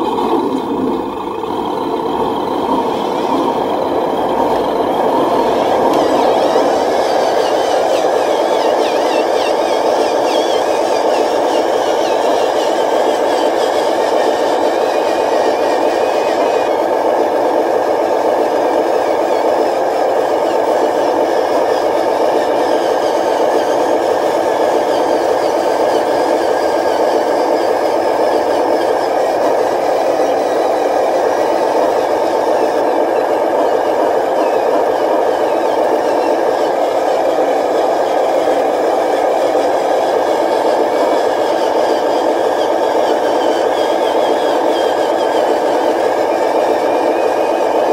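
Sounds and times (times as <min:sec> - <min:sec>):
toy trucks engine drone: 0:00.0 - 0:47.9.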